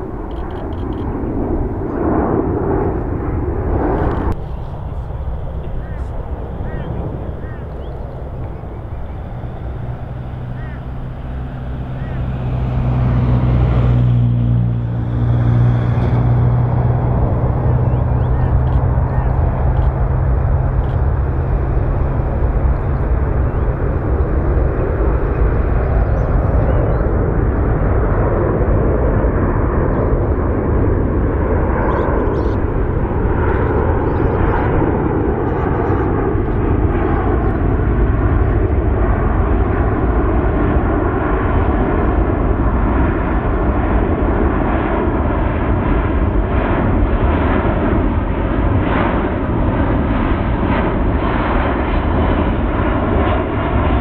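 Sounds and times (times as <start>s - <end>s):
jet engine noise: 0.0s - 54.0s.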